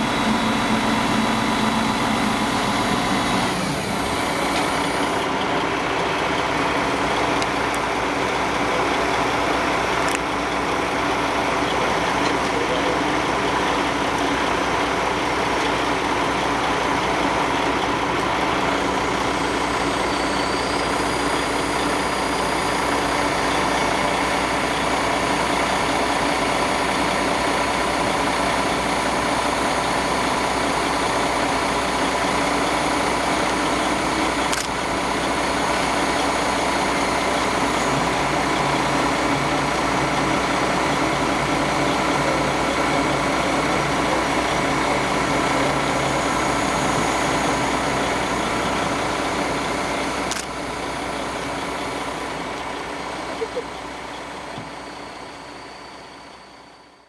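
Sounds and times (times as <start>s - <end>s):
heavy machine engine idling: 0.0s - 57.0s.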